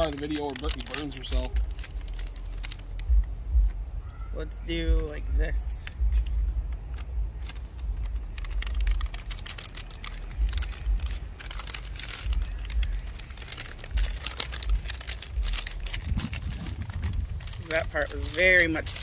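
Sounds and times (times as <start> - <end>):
plastic packaging crinkling: 0.0 - 3.8, 5.8 - 19.0
low rumble: 0.7 - 19.0.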